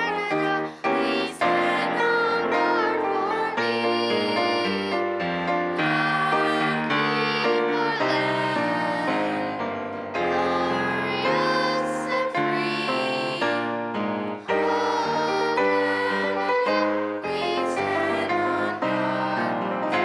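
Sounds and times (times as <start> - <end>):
children singing: 0.0 - 20.0
piano accompaniment: 0.0 - 20.0.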